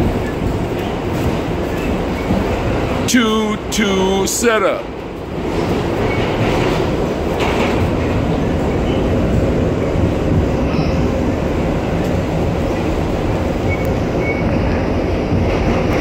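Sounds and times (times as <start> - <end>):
wheels clacking over rail joints: 0.0 - 3.1, 4.9 - 16.0
train wheels rumbling on rails: 0.0 - 16.0.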